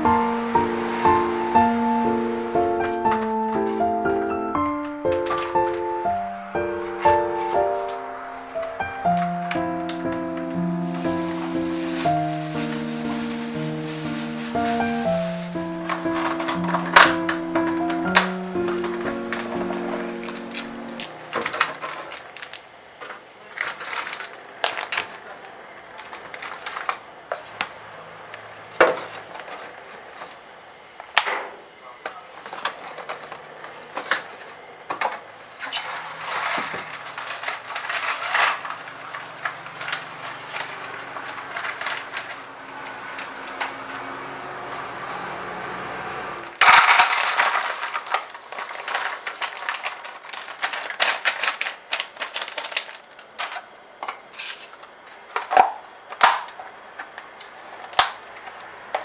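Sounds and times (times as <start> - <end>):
crackling rustle: 0.0 - 44.0, 46.4 - 59.0.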